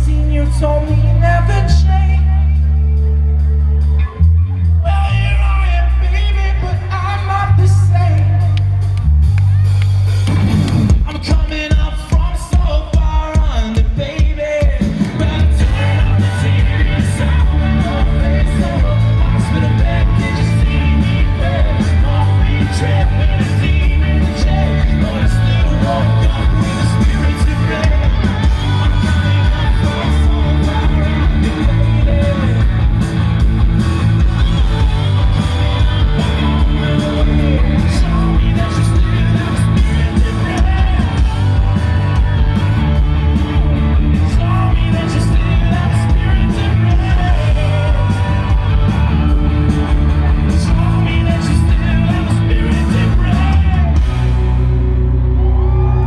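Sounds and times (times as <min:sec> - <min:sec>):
lead singer singing: 0:00.0 - 0:03.4, 0:10.9 - 0:54.7
rock band playing live: 0:00.0 - 0:56.0.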